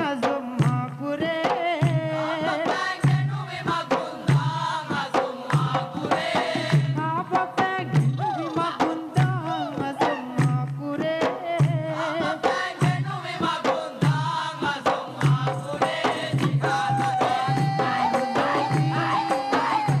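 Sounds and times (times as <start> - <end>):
large drums beating fast rhythm: 0.0 - 20.0
men singing: 2.0 - 7.1, 7.9 - 10.7, 11.8 - 20.0.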